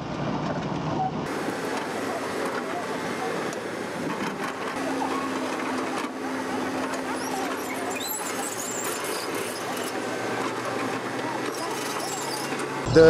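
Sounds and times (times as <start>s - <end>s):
machinery noise: 0.0s - 13.0s
tractor engines humming: 0.0s - 13.0s.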